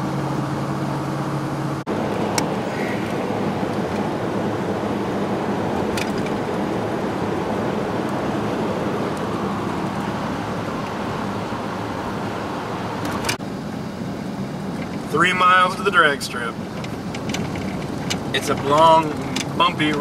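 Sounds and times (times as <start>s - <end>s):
low engine hum: 0.0s - 20.0s
tyre and wind road noise: 0.0s - 20.0s.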